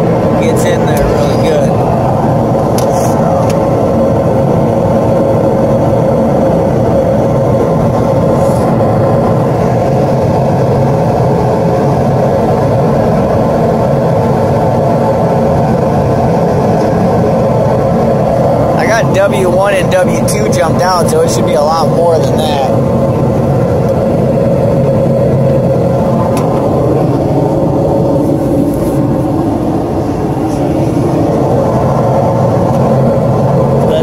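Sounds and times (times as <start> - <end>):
heater blower drone: 0.0 - 34.0.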